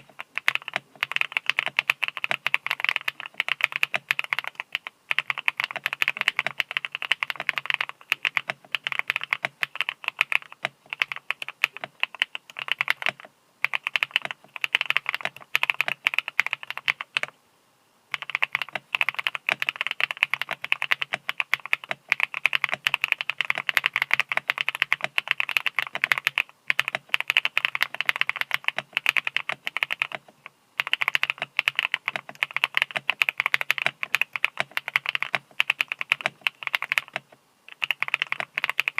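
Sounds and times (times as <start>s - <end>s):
mechanical keyboard typing: 0.0s - 17.3s, 18.1s - 38.9s.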